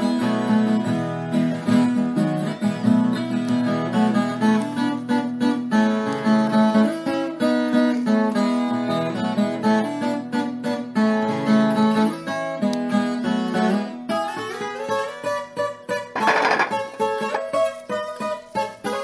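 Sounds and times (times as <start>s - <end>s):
plucked acoustic guitar melody: 0.0s - 19.0s.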